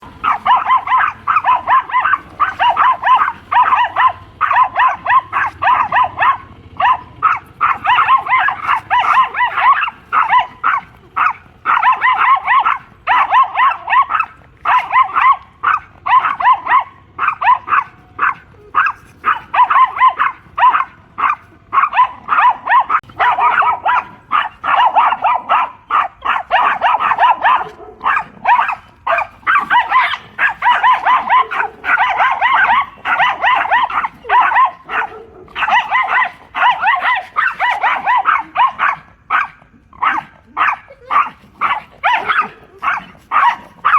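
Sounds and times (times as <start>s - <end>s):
dogs barking rapidly: 0.0s - 43.9s.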